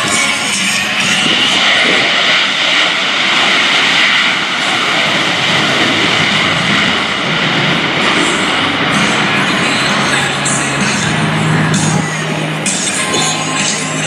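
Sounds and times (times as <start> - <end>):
jet engine with afterburner: 0.0 - 14.0.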